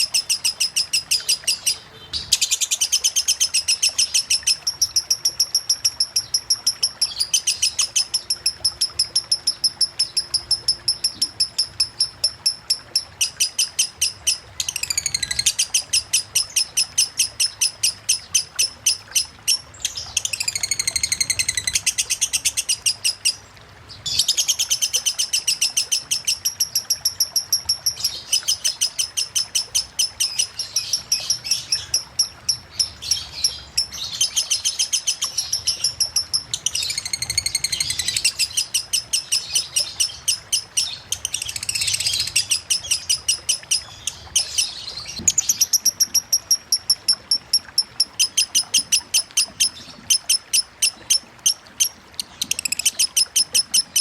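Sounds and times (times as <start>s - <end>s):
lovebird singing rapid high chips: 0.0s - 23.4s, 24.1s - 54.0s.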